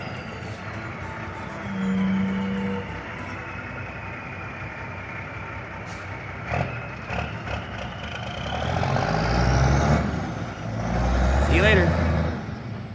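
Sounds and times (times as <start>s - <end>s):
diesel truck engine running: 0.0s - 12.9s.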